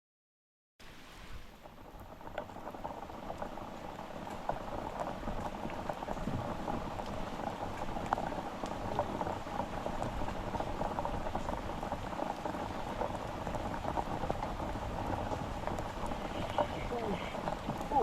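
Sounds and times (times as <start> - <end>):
heavy rain falling: 0.8 - 18.0.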